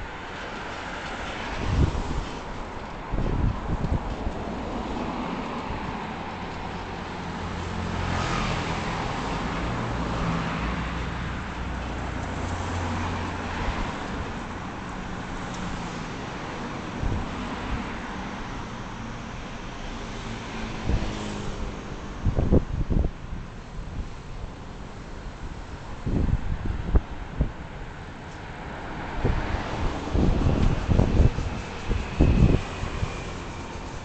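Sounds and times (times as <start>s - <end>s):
road and wind noise: 0.0s - 34.0s
vehicle engine hum: 0.0s - 34.0s.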